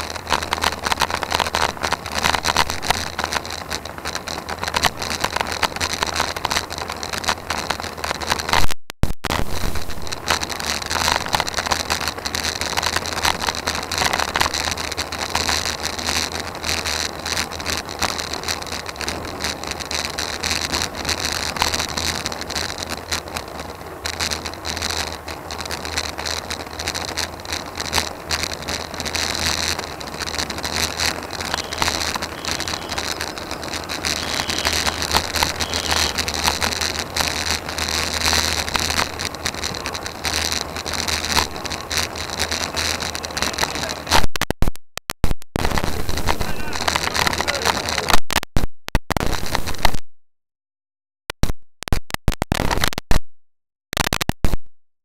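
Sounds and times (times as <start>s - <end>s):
wind and road noise: 0.0s - 8.7s, 9.3s - 44.2s, 45.6s - 48.2s.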